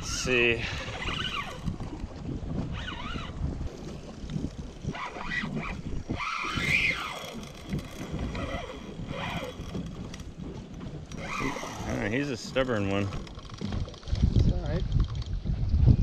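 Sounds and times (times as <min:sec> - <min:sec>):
fishing reel cranking: 0:00.0 - 0:02.1, 0:02.7 - 0:10.4, 0:11.1 - 0:15.2
water washing against hull: 0:00.0 - 0:16.0
wind buffeting microphone: 0:00.0 - 0:16.0.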